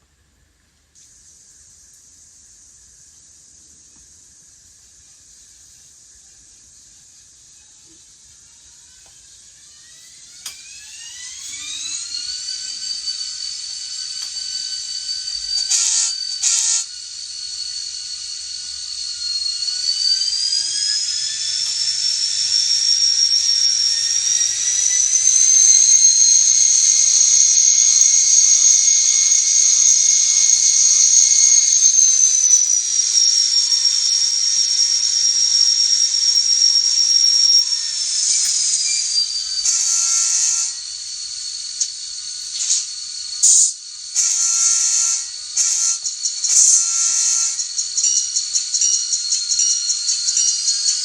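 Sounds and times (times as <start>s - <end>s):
diesel locomotive engine whine: 1.2s - 51.0s.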